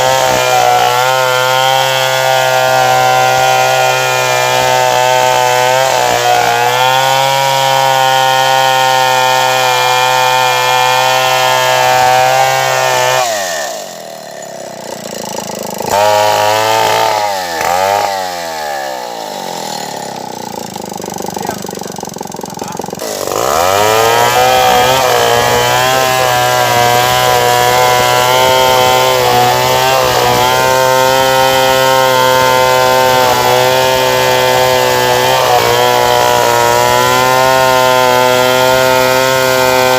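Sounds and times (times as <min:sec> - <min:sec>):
chainsaw cutting wood: 0:00.0 - 0:39.9
chainsaw idling with throttle blips: 0:00.0 - 0:39.9.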